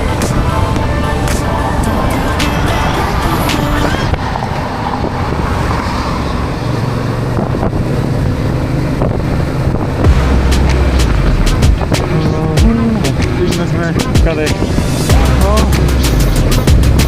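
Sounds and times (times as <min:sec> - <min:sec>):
wind rushing over microphone: 0:00.0 - 0:15.2
motorcycle engine drone: 0:00.0 - 0:17.0.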